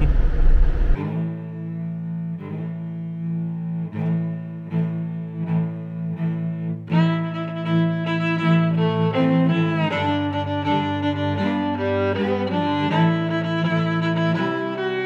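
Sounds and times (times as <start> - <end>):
instrumental music of held notes: 1.0 - 15.0.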